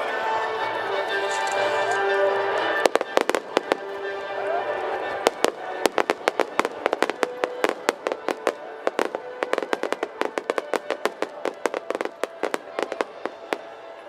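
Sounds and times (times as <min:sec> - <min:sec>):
music with long held notes: 0:00.0 - 0:14.0
fireworks popping: 0:01.4 - 0:14.0.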